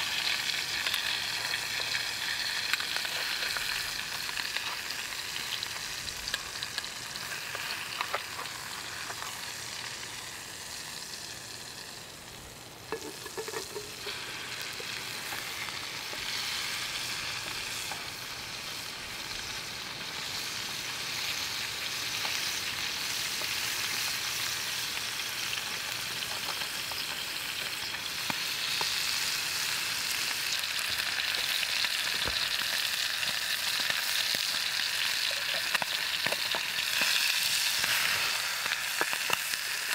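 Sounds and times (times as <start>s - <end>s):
meat sizzling in a pot: 0.0s - 39.9s.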